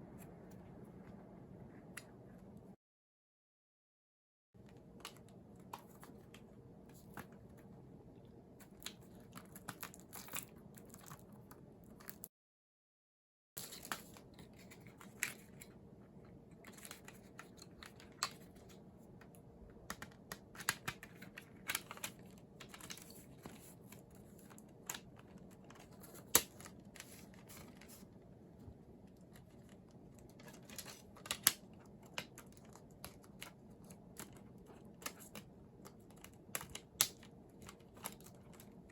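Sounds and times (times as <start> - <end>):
faint room hum: 0.0 - 2.8, 4.6 - 12.3, 13.6 - 38.9.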